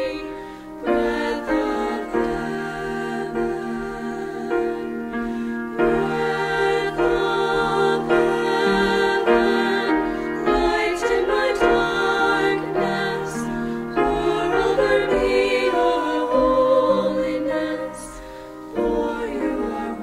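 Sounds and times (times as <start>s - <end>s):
vocal trio singing in harmony: 0.0s - 20.0s.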